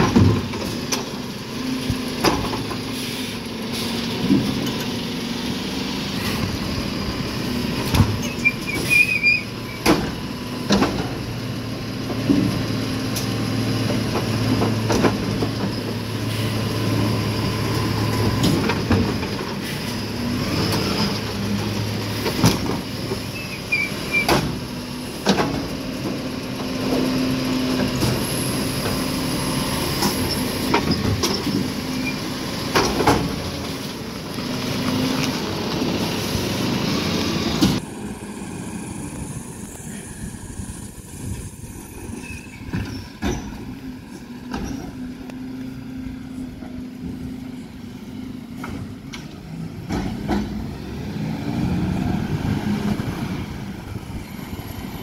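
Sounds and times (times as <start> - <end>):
diesel truck driving: 0.0 - 55.0
truck engine and hydraulic whine: 0.0 - 55.0.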